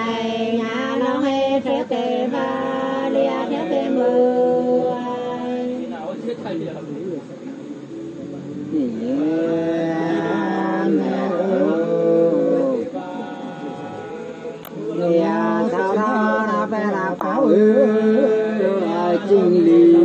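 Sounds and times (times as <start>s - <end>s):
two women singing unaccompanied: 0.0s - 6.0s, 8.6s - 20.0s.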